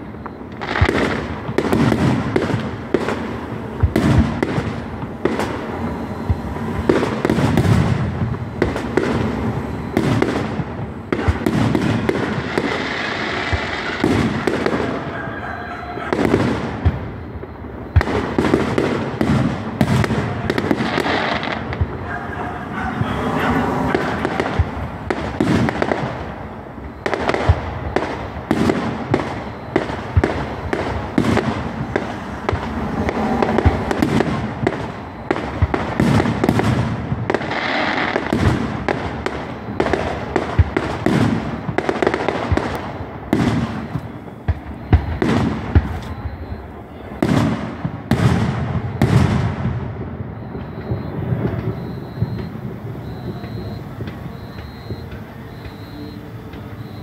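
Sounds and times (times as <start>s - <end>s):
fireworks bursting: 0.0s - 57.0s
fireworks crackling: 0.0s - 57.0s.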